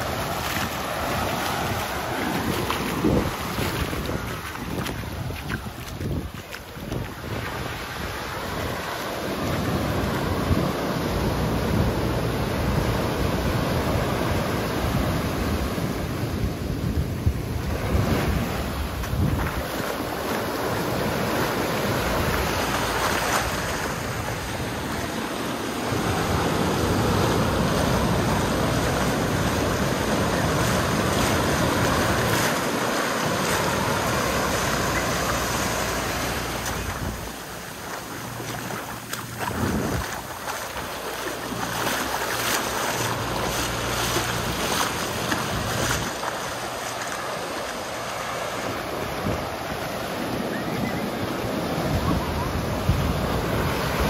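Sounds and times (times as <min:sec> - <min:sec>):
ocean surf washing on beach: 0:00.0 - 0:54.0
wind buffeting microphone: 0:00.0 - 0:54.0.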